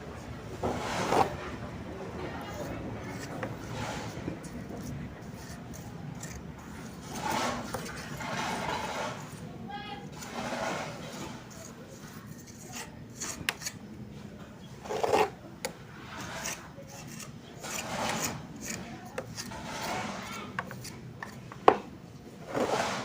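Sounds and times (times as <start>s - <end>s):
mortar scraping and rubbing: 0.6s - 1.5s, 2.3s - 13.8s, 14.8s - 15.4s, 16.0s - 21.6s, 22.4s - 23.0s.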